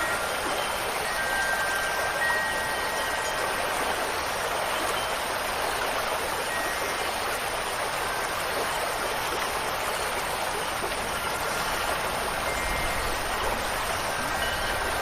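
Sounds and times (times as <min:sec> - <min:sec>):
faint wind chimes: 0:00.0 - 0:15.0
rushing water: 0:00.0 - 0:15.0.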